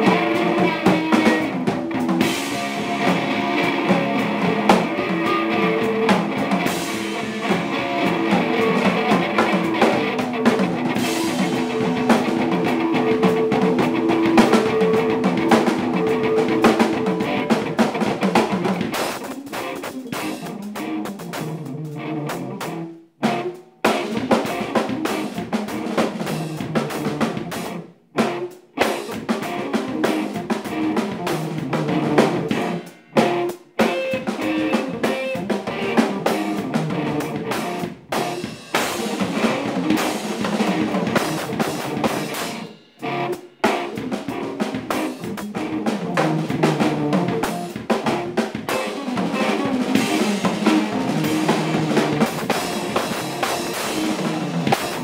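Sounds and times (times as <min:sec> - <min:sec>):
band playing drums and guitar: 0:00.0 - 0:55.0.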